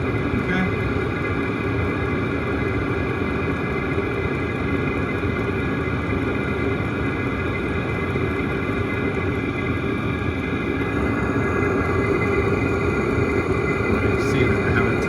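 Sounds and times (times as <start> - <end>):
heater blower fan whirring: 0.0 - 15.0.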